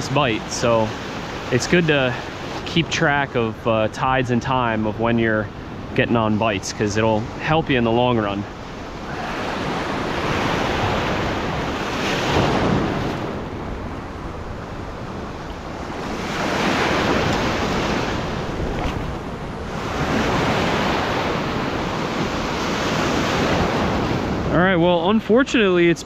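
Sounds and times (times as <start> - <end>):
wind buffeting microphone: 0.0 - 25.1
ocean surf breaking: 0.0 - 26.0.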